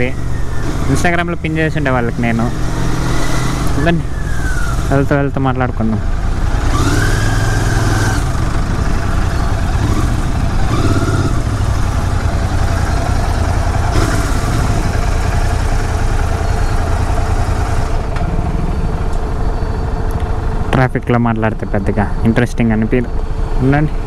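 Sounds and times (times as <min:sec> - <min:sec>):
city traffic: 0:00.0 - 0:24.0
motorcycle engine running: 0:00.0 - 0:24.0.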